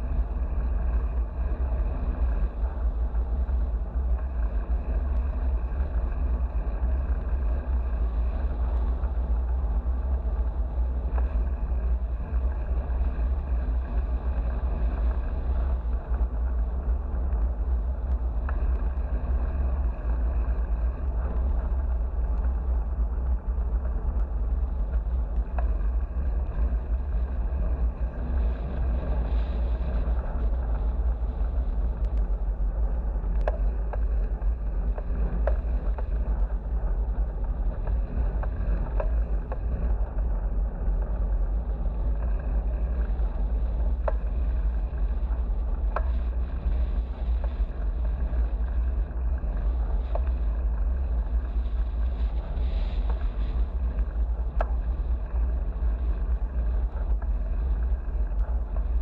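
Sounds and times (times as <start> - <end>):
wind buffeting: 0.0 - 59.0.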